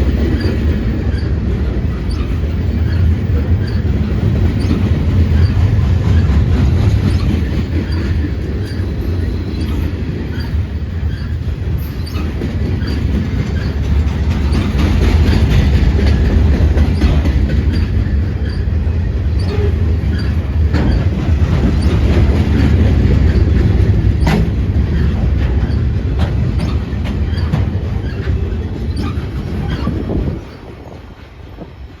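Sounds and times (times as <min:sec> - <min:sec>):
clacks over rail joints: 0:00.0 - 0:32.0
train wheels rumbling on rail: 0:00.0 - 0:32.0.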